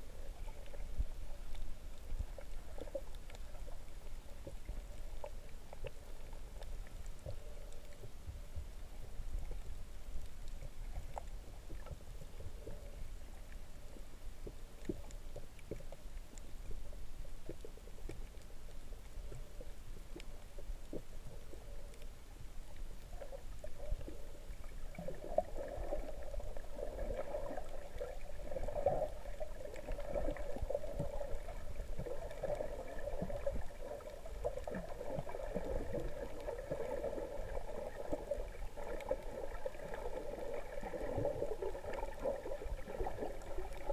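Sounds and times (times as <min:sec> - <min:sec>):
faint underwater clicks: 0:00.0 - 0:43.9
underwater rumble of moving water: 0:00.0 - 0:43.9.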